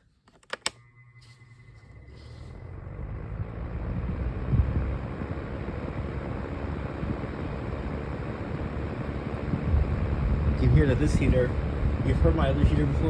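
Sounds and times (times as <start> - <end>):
fan heater whirring: 0.0 - 13.0.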